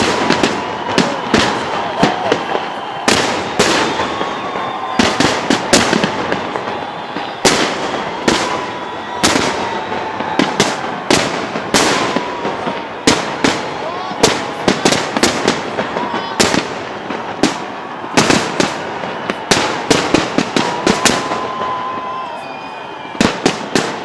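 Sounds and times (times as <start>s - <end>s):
fireworks bangs with crackle: 0.0s - 24.0s.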